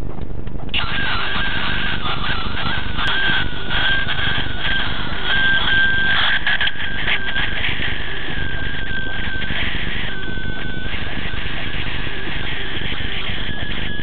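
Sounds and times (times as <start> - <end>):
high whistling tone: 0.8 - 14.0.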